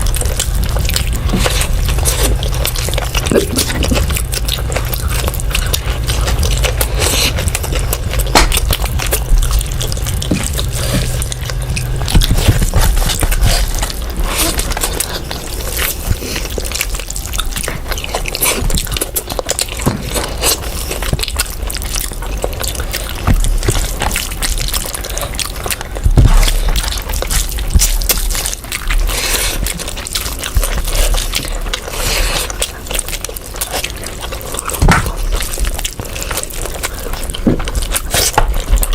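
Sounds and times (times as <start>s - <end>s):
person chewing and smacking: 0.0s - 38.9s.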